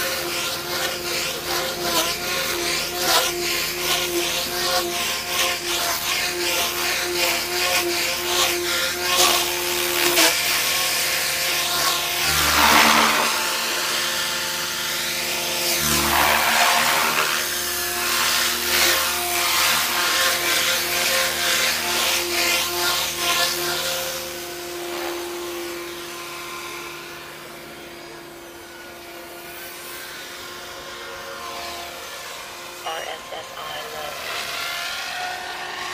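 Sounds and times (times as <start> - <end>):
small drone propellers buzzing: 0.0 - 35.9.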